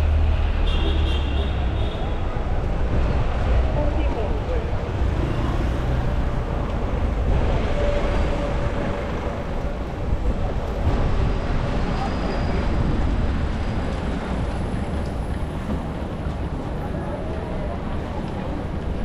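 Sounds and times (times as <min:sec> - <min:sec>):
street traffic rumble: 0:00.0 - 0:19.0
wind buffeting microphone: 0:02.3 - 0:19.0.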